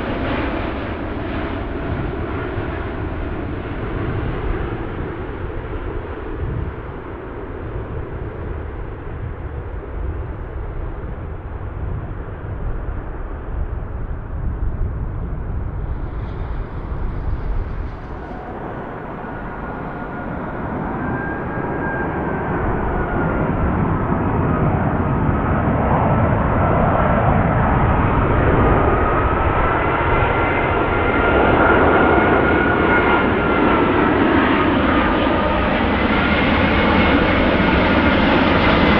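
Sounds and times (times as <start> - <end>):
jet airliner engine whine and rumble: 0.0 - 38.9.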